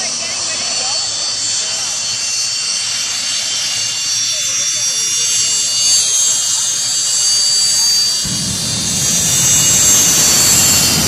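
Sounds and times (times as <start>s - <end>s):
afterburner rumble: 0.0s - 11.0s
jet engine whine: 0.0s - 11.0s.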